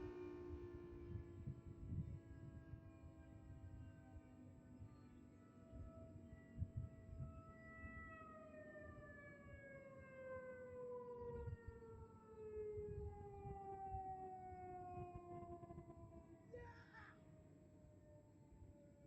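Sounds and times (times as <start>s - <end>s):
faint siren winding down: 0.0s - 4.5s, 5.6s - 19.0s.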